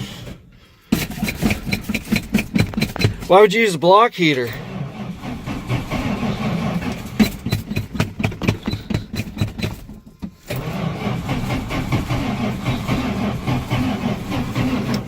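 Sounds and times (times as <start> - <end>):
engine cranking on starter: 0.0 - 3.4, 4.4 - 15.0.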